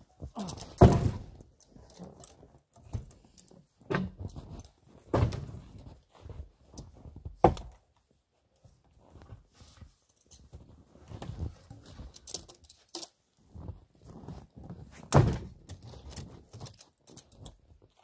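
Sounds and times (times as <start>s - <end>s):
shuffling and handling noise: 0.0s - 18.0s.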